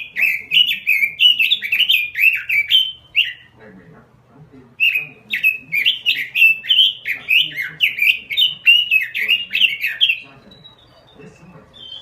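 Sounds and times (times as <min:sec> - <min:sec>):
bird singing sweeping chirps: 0:00.0 - 0:03.6, 0:04.8 - 0:12.0.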